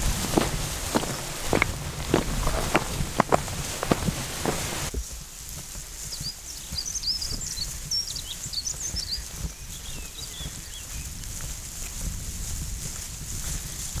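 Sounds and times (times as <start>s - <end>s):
songbird chirping: 0.0s - 11.2s
footsteps on loose stones: 0.0s - 14.0s.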